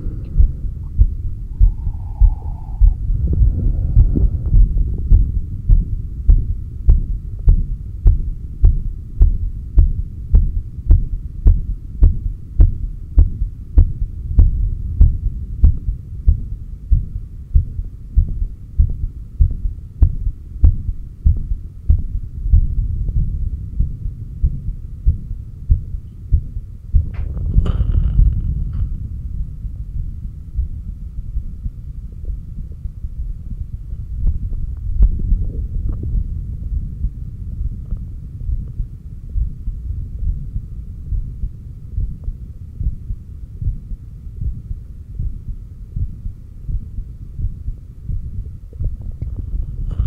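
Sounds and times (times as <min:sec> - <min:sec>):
faint steady hum: 0:00.0 - 0:50.0
heartbeat thumps: 0:00.0 - 0:50.0.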